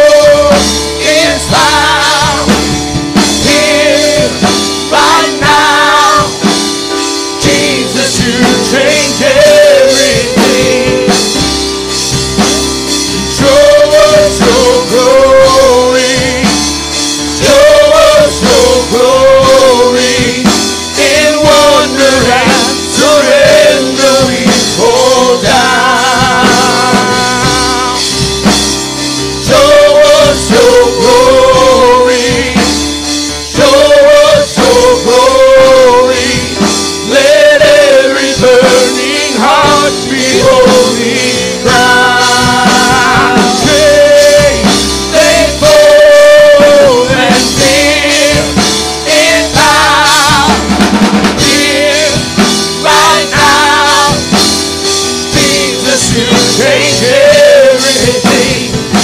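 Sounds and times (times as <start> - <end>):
singers with vibrato: 0.0 - 11.6, 13.2 - 28.5, 29.2 - 59.0
drum kit: 0.0 - 59.0
keyboard chords: 0.0 - 59.0.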